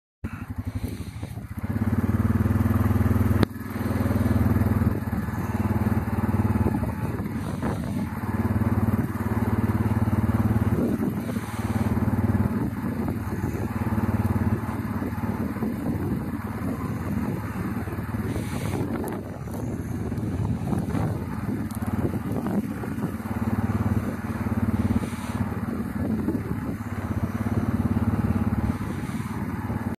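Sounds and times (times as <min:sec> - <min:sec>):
atv engine running: 0:00.2 - 0:30.0.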